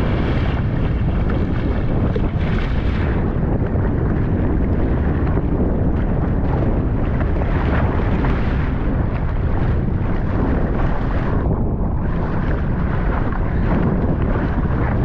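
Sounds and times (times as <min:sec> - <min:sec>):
paddle splashing: 0:00.0 - 0:15.0
wind buffeting microphone: 0:00.0 - 0:15.0.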